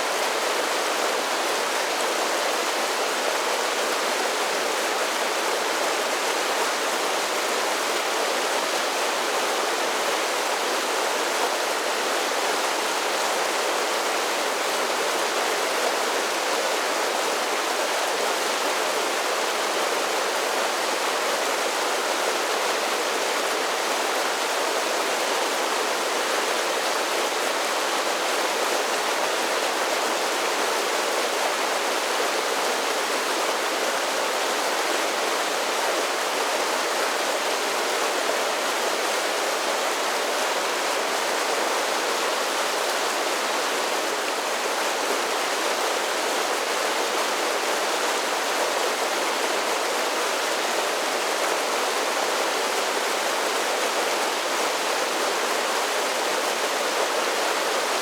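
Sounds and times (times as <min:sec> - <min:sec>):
creek rushing over small waterfalls: 0:00.0 - 0:58.0.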